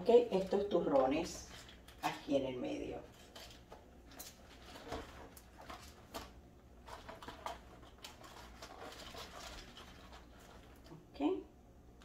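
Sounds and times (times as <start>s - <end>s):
faint wrapper rustling: 0.0s - 11.0s.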